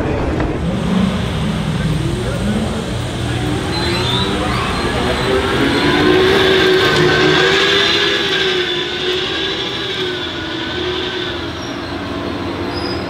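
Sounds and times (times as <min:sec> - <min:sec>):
electric van drive whining: 0:00.0 - 0:13.0.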